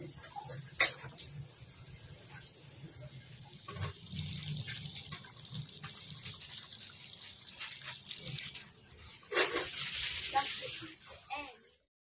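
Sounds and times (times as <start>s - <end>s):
sauce bubbling in a pot: 0.1s - 11.5s.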